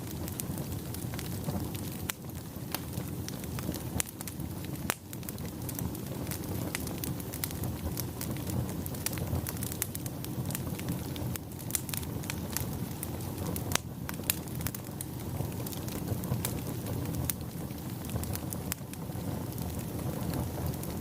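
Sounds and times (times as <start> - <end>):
low rumble of burning: 0.0 - 21.0
wood fire crackling and popping: 0.0 - 21.0.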